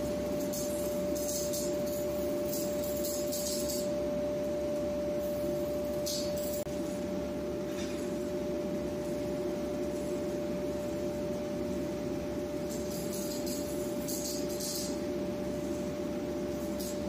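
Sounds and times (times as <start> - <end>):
machinery hum and whine: 0.0 - 17.0.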